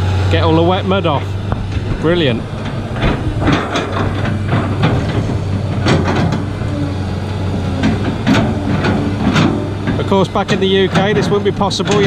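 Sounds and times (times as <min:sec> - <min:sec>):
excavator diesel engine humming: 0:00.0 - 0:12.0
machine clanks: 0:00.5 - 0:12.0.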